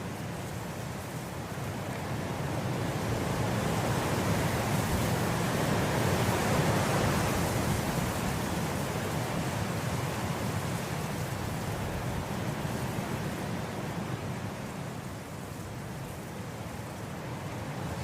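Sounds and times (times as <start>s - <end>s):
wind blowing through grass: 0.0s - 18.0s.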